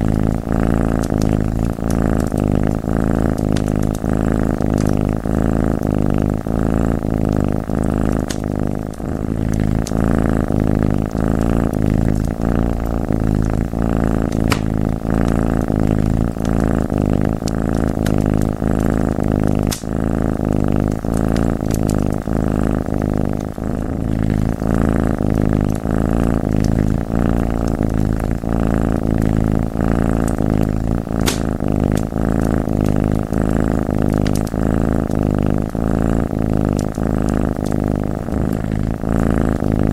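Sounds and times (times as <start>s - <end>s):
wood fire crackling and popping: 0.0s - 39.0s
cat purring loudly: 0.0s - 39.9s.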